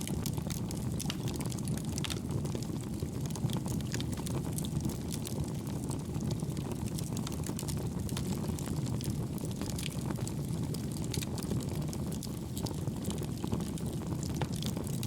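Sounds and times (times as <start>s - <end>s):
wood fire rumbling and crackling: 0.0s - 15.0s.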